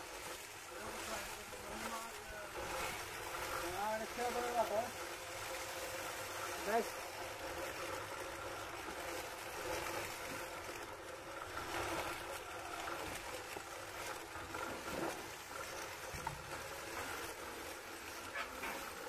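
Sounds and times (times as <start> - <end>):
electric shears cutting fleece: 0.0 - 19.0.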